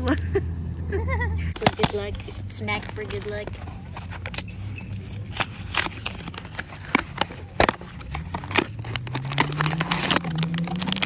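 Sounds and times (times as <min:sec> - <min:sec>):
cardboard tearing and crackling: 0:01.6 - 0:11.0.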